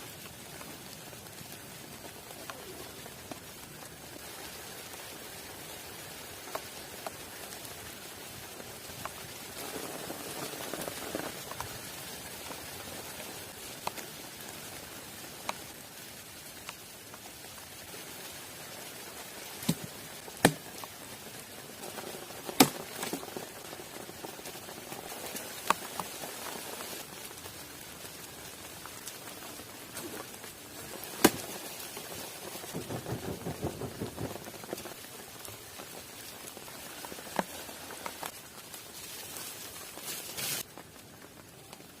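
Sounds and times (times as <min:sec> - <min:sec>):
rain falling in forest: 0:00.0 - 0:42.0.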